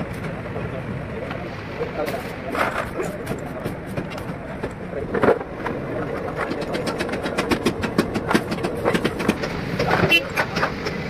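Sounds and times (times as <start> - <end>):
workshop background noise: 0.0 - 11.0.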